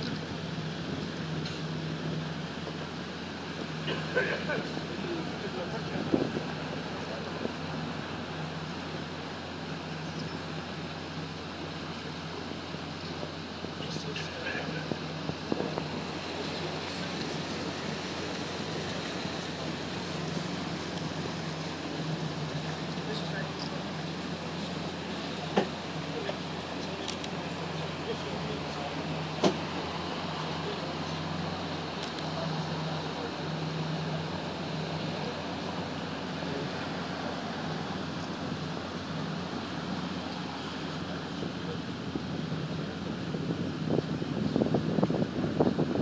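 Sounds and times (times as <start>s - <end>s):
boat engine humming: 0.0s - 46.0s
wind and water rushing: 0.0s - 46.0s.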